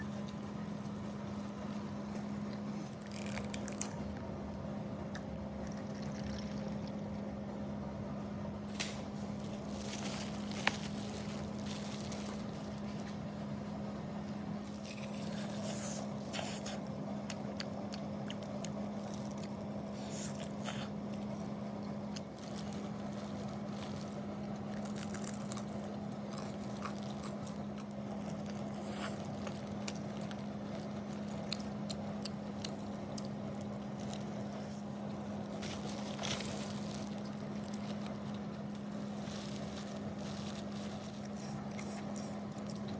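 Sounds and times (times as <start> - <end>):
chewing crispy food: 0.0 - 4.3, 5.1 - 7.3, 8.8 - 42.9
low hum: 0.0 - 42.9.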